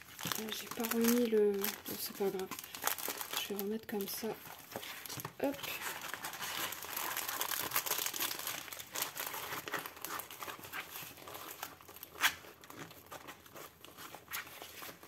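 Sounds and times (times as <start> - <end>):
plastic film crinkling: 0.0 - 15.0
sharp plastic crackle: 0.0 - 15.0.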